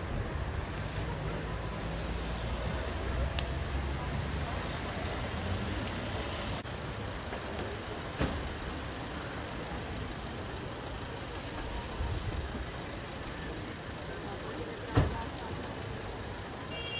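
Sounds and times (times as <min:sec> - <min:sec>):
traffic rumble: 0:00.0 - 0:16.9.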